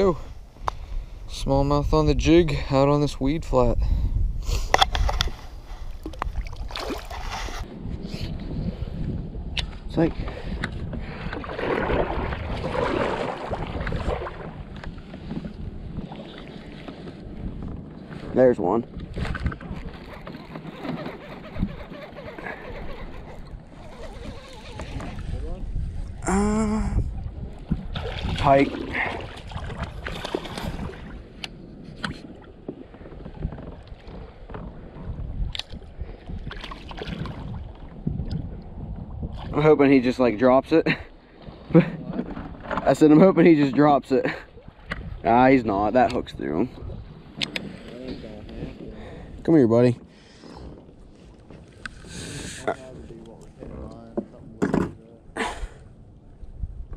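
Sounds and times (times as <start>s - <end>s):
wind rumble on microphone: 0.0s - 56.9s
water splashing around kayak: 4.6s - 26.4s, 27.0s - 56.9s.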